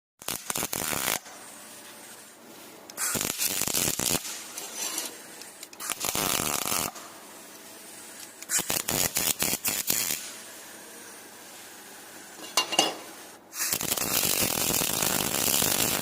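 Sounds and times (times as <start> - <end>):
welding arc crackling: 0.2 - 2.2, 2.9 - 10.5, 12.5 - 16.0.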